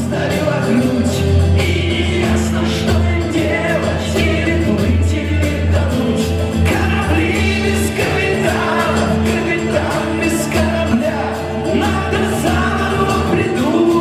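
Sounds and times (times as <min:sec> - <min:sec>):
heavy bass: 0:00.0 - 0:14.0
live rock band playing: 0:00.0 - 0:14.0.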